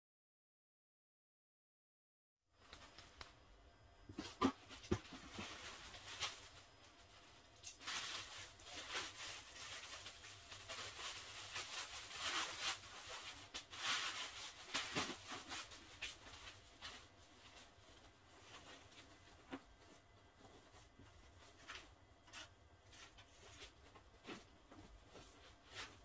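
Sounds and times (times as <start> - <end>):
plastic wrapping crinkling: 4.2 - 26.0.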